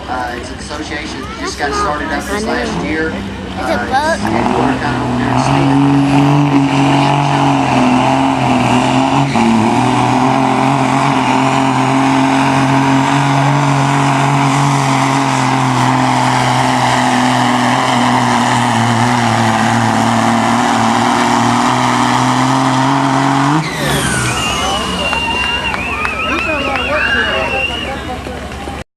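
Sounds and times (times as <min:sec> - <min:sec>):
truck engine at full throttle: 0:00.0 - 0:28.8.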